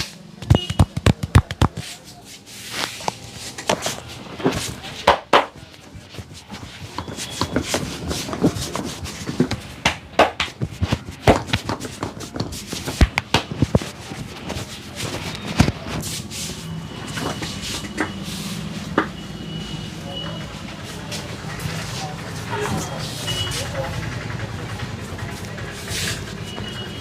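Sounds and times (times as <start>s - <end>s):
passing traffic hum: 0.0s - 27.0s.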